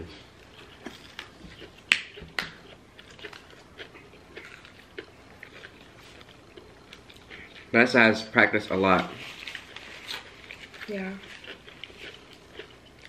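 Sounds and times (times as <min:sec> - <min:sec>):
chewing and biting food: 0:00.4 - 0:07.7, 0:09.0 - 0:13.0.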